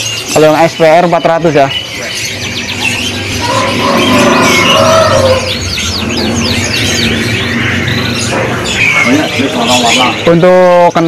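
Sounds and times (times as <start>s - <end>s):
canaries chirping and trilling: 0.0s - 11.0s.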